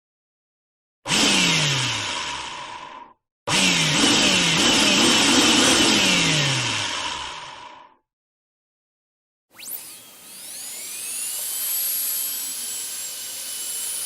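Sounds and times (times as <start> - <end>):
power drill running: 1.1 - 8.0, 9.6 - 14.0.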